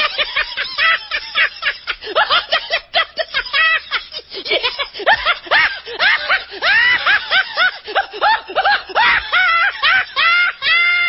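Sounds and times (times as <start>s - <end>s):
high-pitched snickering laughter: 0.0s - 11.0s.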